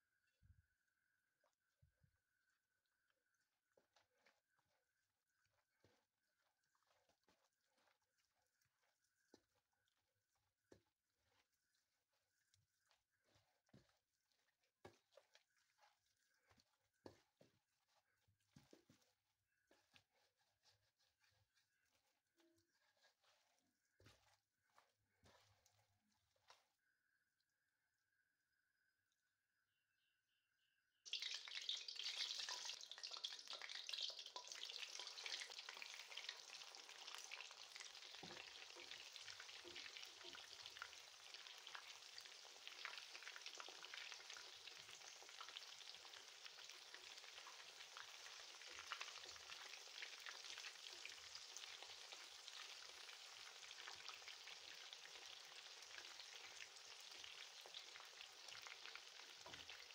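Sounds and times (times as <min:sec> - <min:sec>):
chicken deep-frying in oil: 0:03.4 - 0:26.7, 0:31.1 - 0:59.9.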